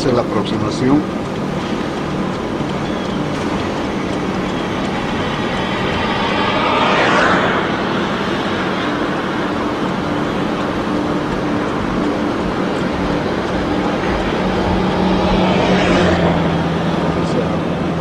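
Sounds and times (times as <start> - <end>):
vehicle driving on road: 0.0 - 18.0.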